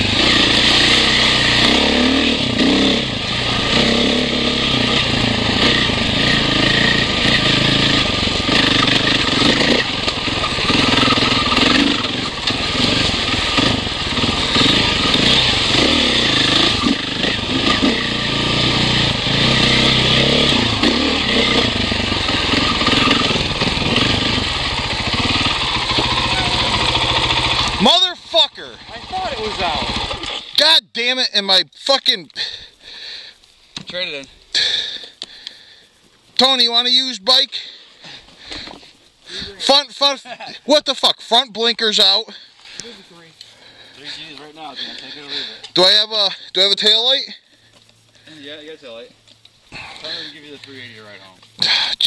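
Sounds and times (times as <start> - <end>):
dirt bike engine revving: 0.0 - 30.8, 36.4 - 49.1, 49.7 - 52.0.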